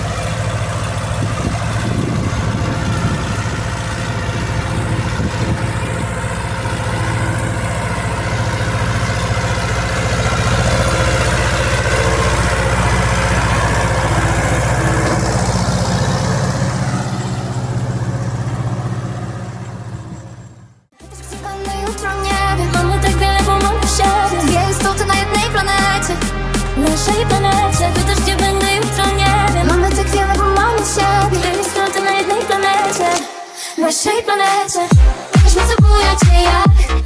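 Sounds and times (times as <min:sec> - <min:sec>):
tractor diesel engine running: 0:00.0 - 0:33.2, 0:34.8 - 0:37.0.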